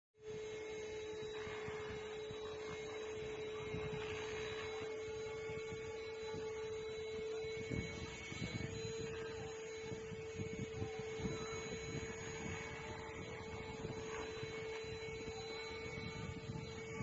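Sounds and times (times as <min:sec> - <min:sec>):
handheld vacuum motor whine: 0:00.2 - 0:17.0.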